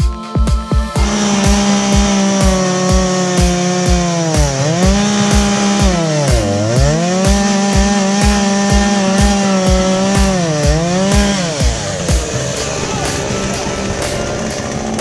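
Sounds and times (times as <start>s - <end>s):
chainsaw cutting wood: 0.8s - 15.0s.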